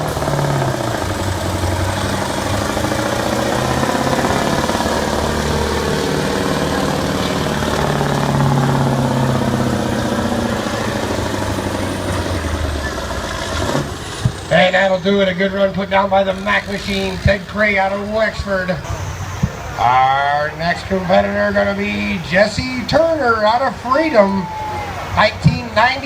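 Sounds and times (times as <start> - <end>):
diesel engine running hard: 0.0 - 26.0.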